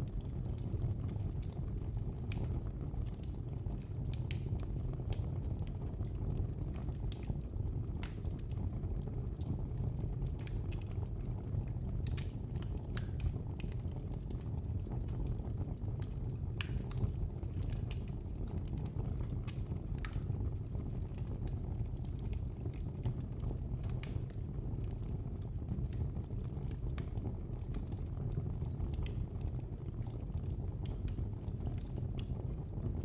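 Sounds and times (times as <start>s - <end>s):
fire rumbling: 0.0s - 33.0s
wood crackling and popping: 0.0s - 33.0s.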